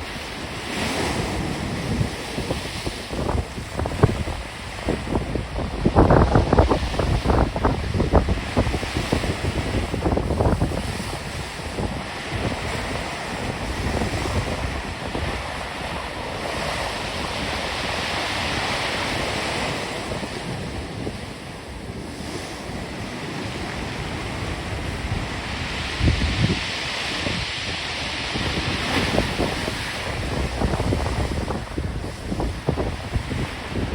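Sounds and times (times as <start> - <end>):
storm surf breaking: 0.0 - 33.9
wind buffeting microphone: 0.0 - 33.9.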